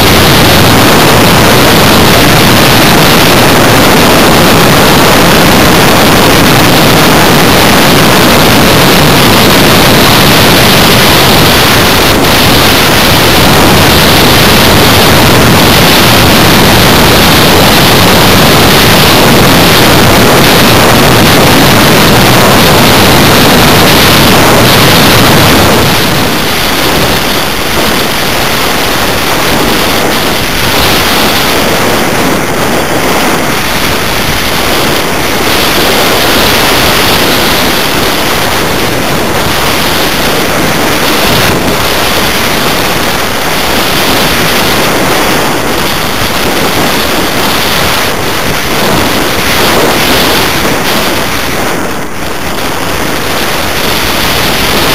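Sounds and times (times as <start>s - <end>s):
wind noise on microphone: 0.0s - 54.9s.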